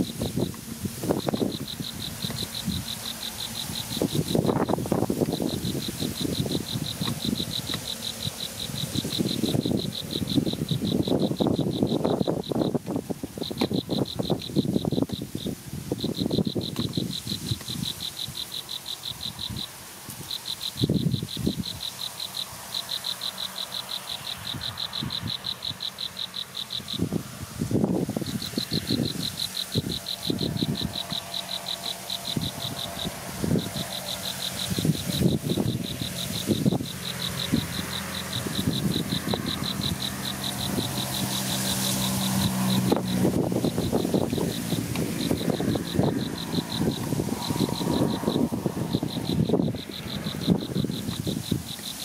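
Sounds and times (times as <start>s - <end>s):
distant motor hum: 0.0s - 52.0s
insect chirping rhythmically: 0.0s - 52.0s.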